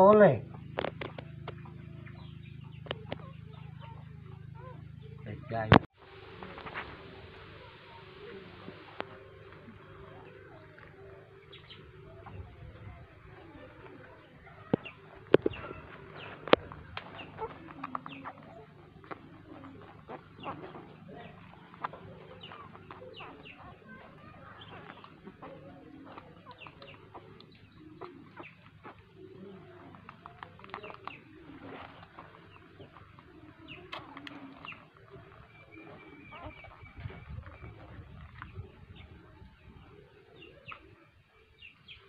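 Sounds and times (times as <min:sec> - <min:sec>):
puppies squeaking and whimpering: 0:00.5 - 0:05.6, 0:06.4 - 0:39.2.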